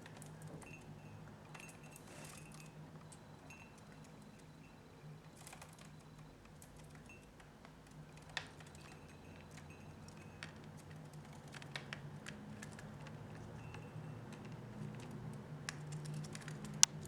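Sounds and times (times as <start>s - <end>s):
birds pecking and tapping: 0.0s - 4.6s, 5.2s - 17.0s.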